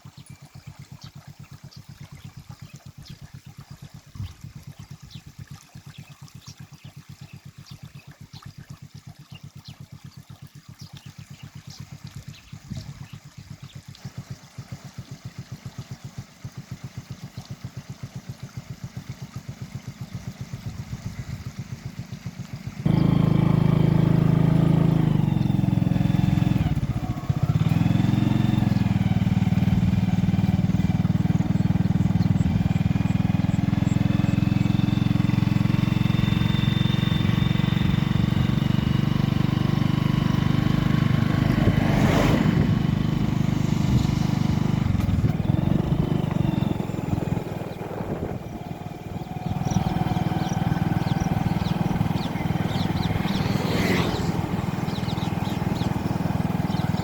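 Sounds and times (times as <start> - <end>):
vehicle engine running: 9.2 - 57.0.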